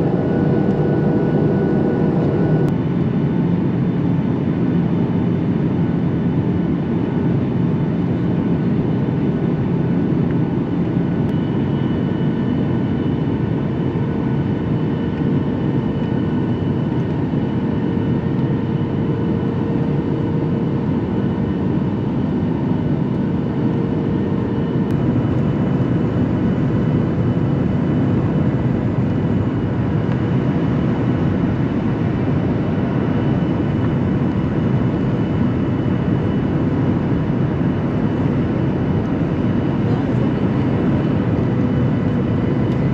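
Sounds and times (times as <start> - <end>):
airliner cabin engine rush: 0.0 - 42.9.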